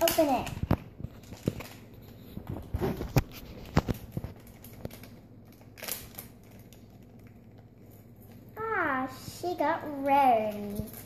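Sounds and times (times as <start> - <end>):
foil bag crinkling and tearing: 0.0 - 8.5, 9.9 - 11.0.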